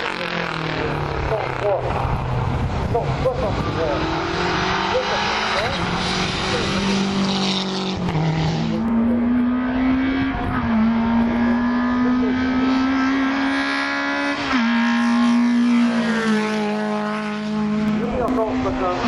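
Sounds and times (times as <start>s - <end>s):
rally car engines revving high: 0.0s - 19.0s.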